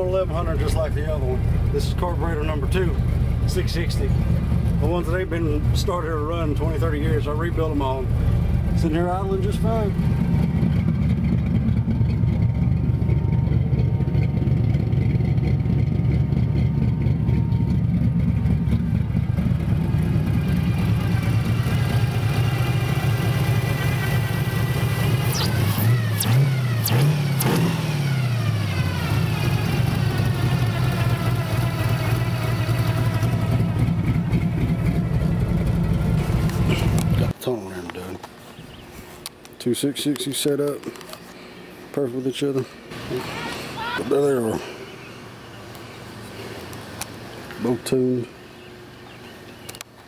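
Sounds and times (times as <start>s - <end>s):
car engine idling and revving: 0.0s - 37.4s, 45.0s - 50.0s.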